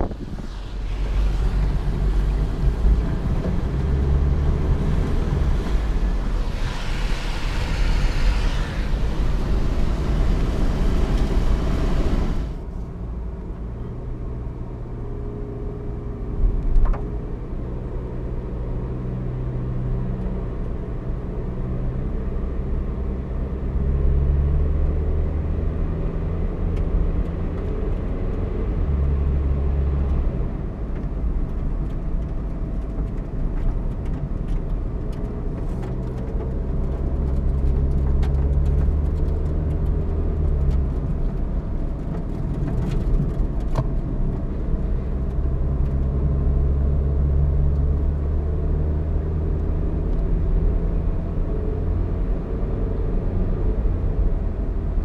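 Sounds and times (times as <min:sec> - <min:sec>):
engine and tyre hum: 0:00.0 - 0:55.0
rushing wind and road noise: 0:00.0 - 0:55.0.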